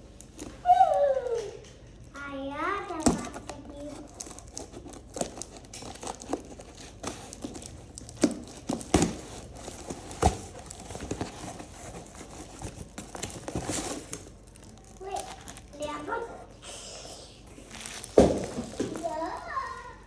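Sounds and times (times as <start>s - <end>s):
plastic packaging crinkling: 2.8s - 16.3s, 17.4s - 20.0s.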